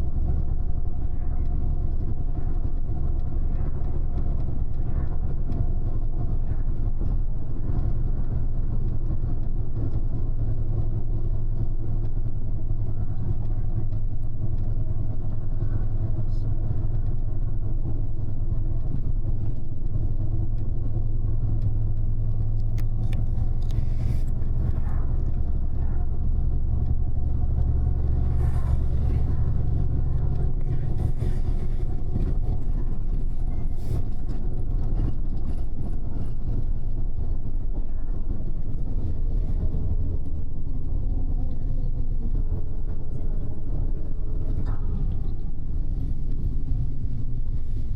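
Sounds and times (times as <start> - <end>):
bus engine rumble: 0.0 - 47.9
road noise: 0.0 - 47.9.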